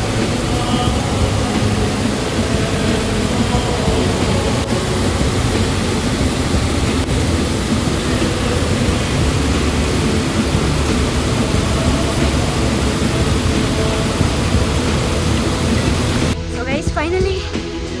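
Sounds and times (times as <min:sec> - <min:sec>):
waterfall roaring: 0:00.0 - 0:16.4.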